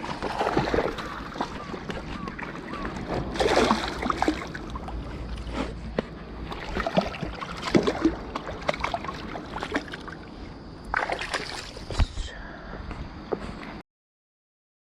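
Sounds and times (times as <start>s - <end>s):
water splashing and sloshing: 0.0s - 12.2s.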